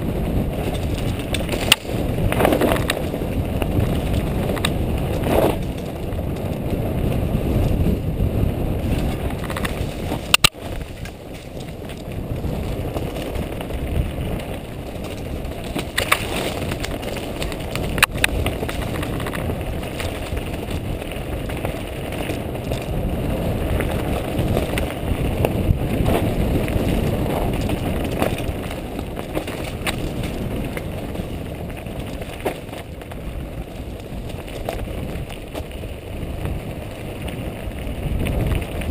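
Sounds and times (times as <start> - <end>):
bike rattling: 0.0 - 38.9
tyres crunching over dirt and stones: 0.0 - 38.9
bike knocking on rocks: 0.3 - 7.8, 8.8 - 37.5.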